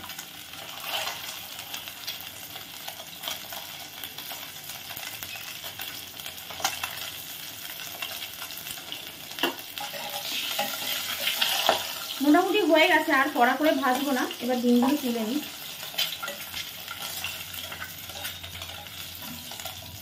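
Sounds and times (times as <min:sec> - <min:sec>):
eggs sizzling in oil: 0:00.0 - 0:20.0.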